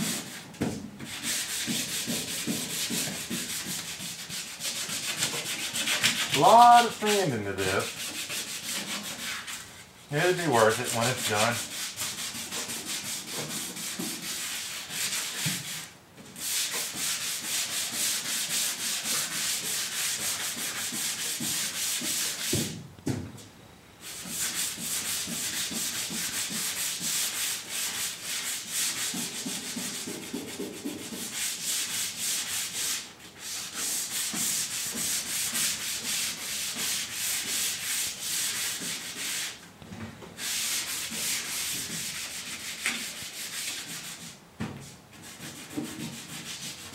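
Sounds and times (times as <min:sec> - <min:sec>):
sandpaper rubbing strokes: 0:00.0 - 0:22.6, 0:24.0 - 0:39.6, 0:40.4 - 0:44.4, 0:45.1 - 0:46.9.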